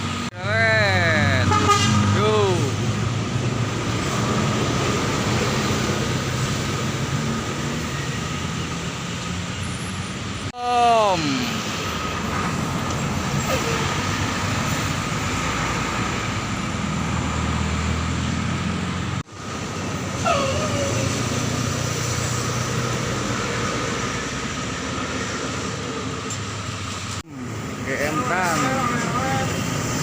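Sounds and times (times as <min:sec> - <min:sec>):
bus diesel engine passing: 0:00.0 - 0:30.0.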